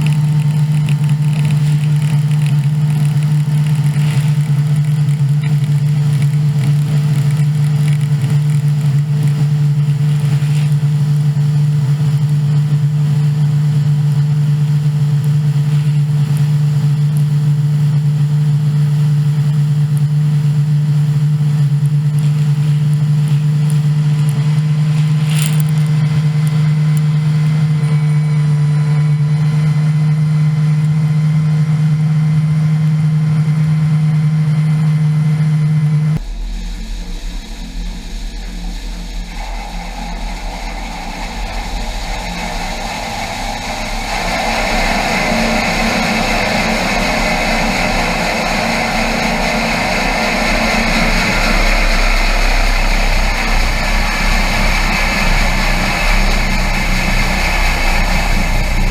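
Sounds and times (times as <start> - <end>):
combine harvester engine droning: 0.0 - 58.9.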